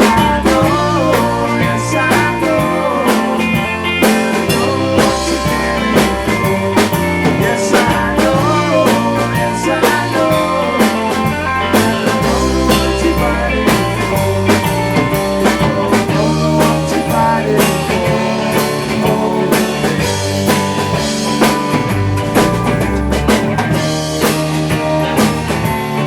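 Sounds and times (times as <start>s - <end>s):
bass guitar: 0.0s - 26.0s
drums keeping a steady beat: 0.0s - 26.0s
electric guitar: 0.0s - 26.0s.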